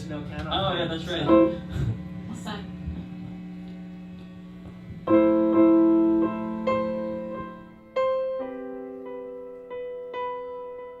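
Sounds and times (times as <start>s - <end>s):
low steady hum: 0.0s - 10.1s
keyboard sustained chords: 0.0s - 11.0s.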